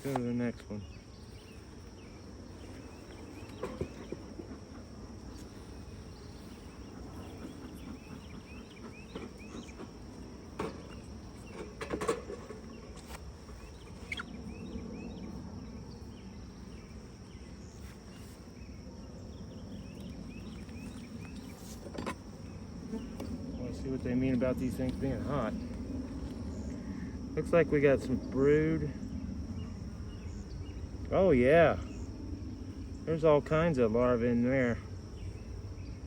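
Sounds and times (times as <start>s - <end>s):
bees humming: 0.7s - 36.0s.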